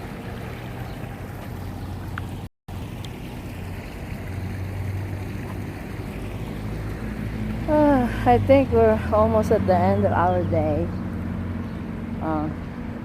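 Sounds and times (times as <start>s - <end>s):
fountain water splashing: 0.0s - 10.9s.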